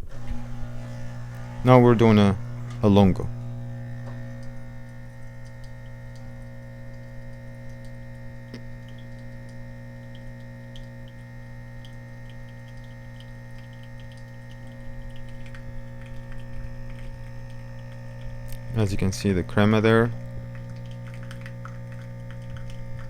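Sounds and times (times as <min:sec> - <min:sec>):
coffee machine pump humming: 0:00.0 - 0:23.0
faint irregular ticks: 0:03.9 - 0:23.0.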